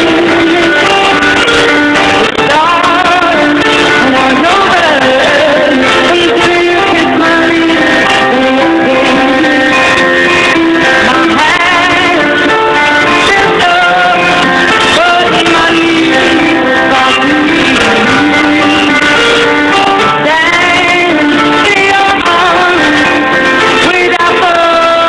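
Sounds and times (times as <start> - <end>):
gliding melody line: 0.0 - 25.0
plucked and strummed guitar: 0.0 - 25.0.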